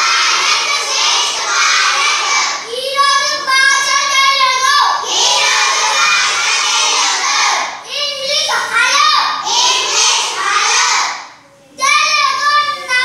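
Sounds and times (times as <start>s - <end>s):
children chanting in unison: 0.0s - 11.4s.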